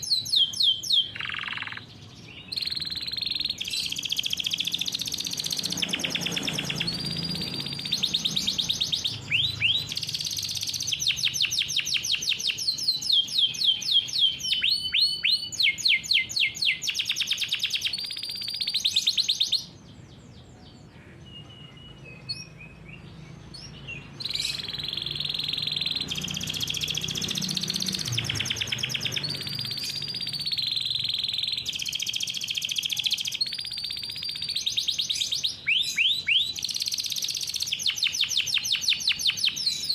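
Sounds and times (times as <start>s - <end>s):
canary singing trills: 0.0s - 39.9s
faint bird chirps: 0.0s - 39.9s.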